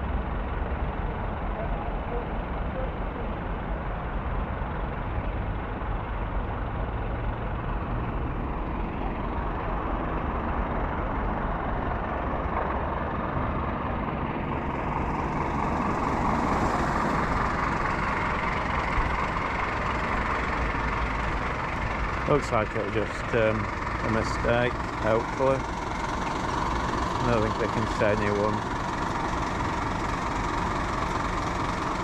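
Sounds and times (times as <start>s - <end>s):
heavy vehicle engines rumbling: 0.0s - 32.0s.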